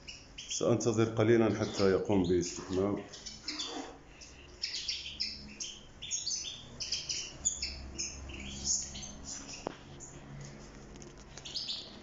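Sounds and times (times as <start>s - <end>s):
goldfinches twittering: 0.0s - 10.2s, 11.4s - 12.0s.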